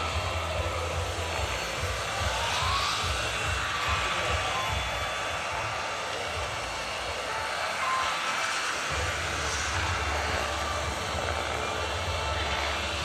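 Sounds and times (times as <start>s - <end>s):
helicopter rotor beat: 0.0s - 13.0s
model helicopter turbine whine: 0.0s - 13.0s.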